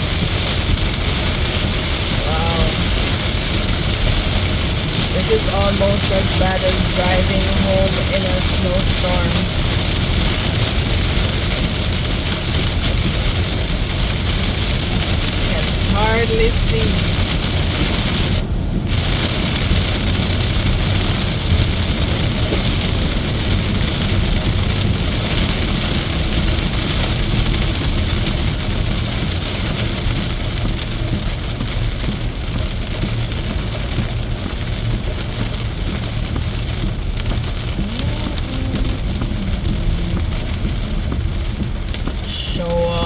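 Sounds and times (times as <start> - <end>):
heavy rain on car roof: 0.0 - 43.0
tyre and road noise: 0.0 - 43.0.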